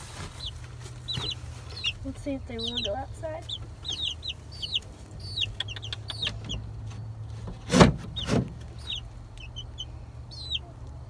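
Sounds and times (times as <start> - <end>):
chicks peeping: 0.0 - 11.0
steady low hum: 0.0 - 11.0.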